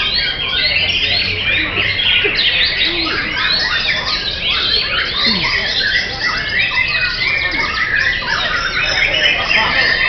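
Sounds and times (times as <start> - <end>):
birds singing whistles and trills: 0.0 - 10.0.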